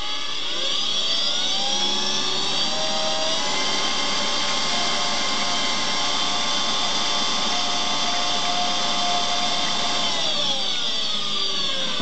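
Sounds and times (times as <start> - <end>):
mixer motor whine: 0.0 - 12.0.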